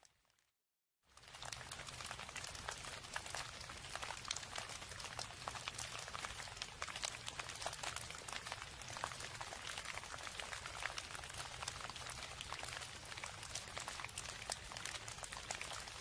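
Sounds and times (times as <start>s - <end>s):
rain patter: 1.1s - 16.0s.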